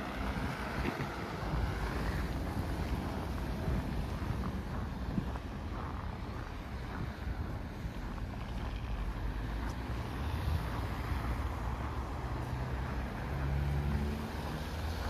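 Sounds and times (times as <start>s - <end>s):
road traffic rumble: 0.0s - 15.0s
vehicle humming: 0.0s - 15.0s.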